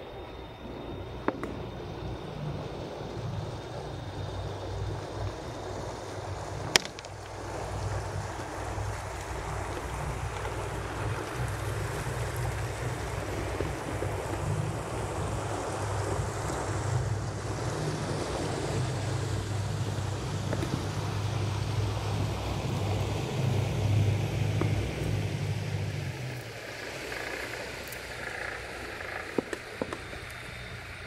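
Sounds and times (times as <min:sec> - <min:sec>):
water washing around dock: 0:00.0 - 0:31.0
wind rumble on microphone: 0:00.0 - 0:31.0.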